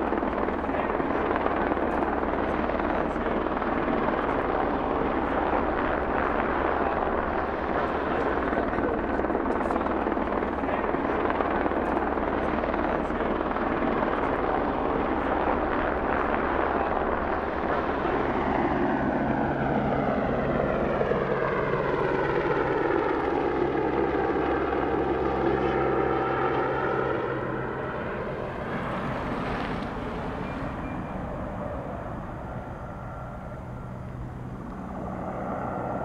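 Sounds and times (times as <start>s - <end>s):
helicopter flying overhead: 0.0s - 36.0s.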